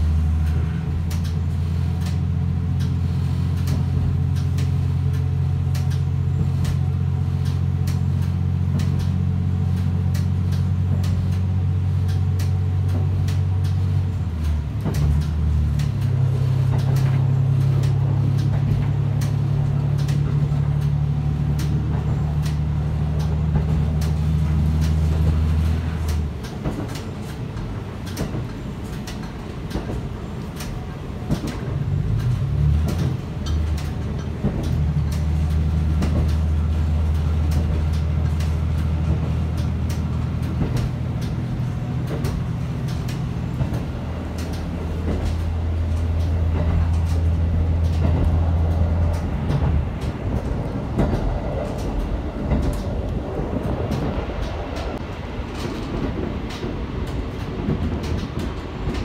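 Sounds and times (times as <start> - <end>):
railcar diesel engine drone: 0.0 - 59.0
running gear clicks: 7.4 - 59.0.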